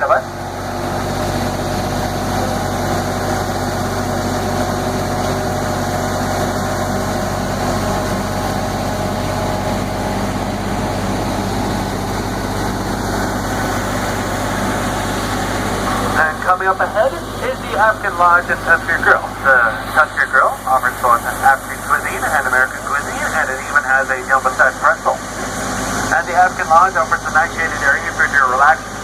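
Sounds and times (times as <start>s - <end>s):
tram engine humming: 0.0s - 29.0s.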